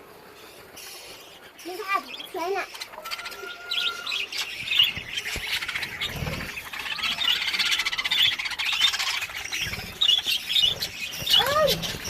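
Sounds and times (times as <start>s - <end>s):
lovebirds chattering: 0.0s - 12.0s.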